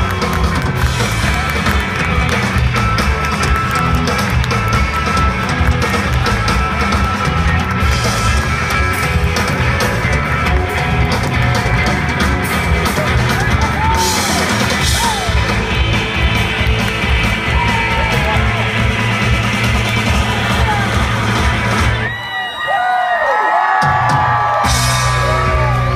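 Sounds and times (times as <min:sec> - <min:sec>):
live rock band playing: 0:00.0 - 0:22.2, 0:23.8 - 0:25.9.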